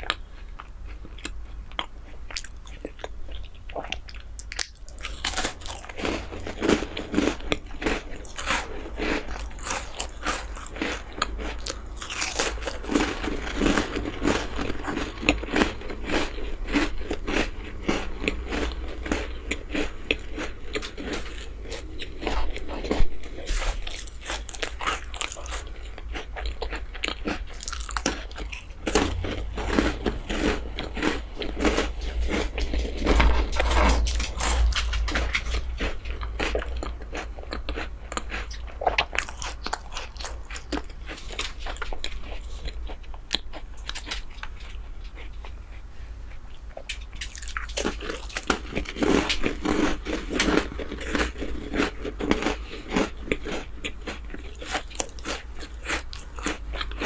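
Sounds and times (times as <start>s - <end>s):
biscuit crunching and chewing: 0.0s - 57.0s.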